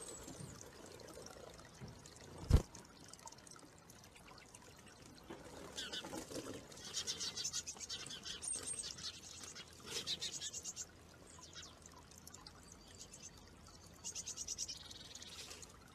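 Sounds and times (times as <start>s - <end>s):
water trickling into bird bath: 0.0s - 15.9s.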